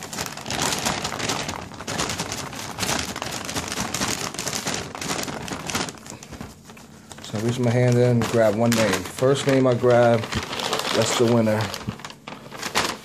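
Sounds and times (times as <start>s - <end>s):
paper bag crackling and rustling: 0.0s - 13.0s.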